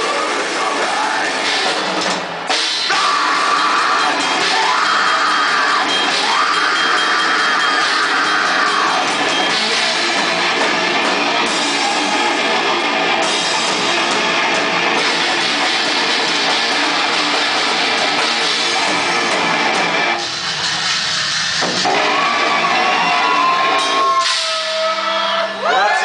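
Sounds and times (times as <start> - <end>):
band playing distorted metal: 0.0 - 26.0.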